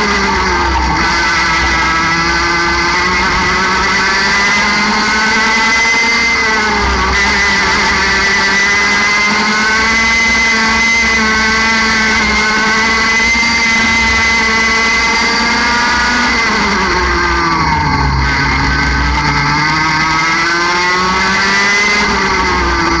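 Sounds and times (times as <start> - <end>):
kart engine at high revs: 0.0 - 23.0.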